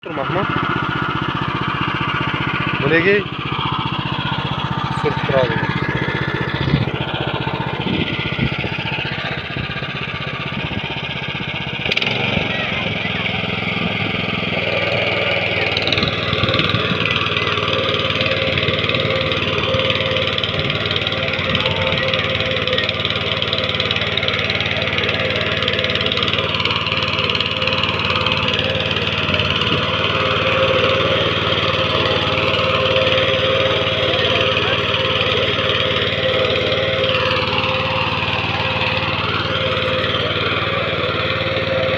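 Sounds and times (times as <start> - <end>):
rotary tiller engine running: 0.0 - 41.9.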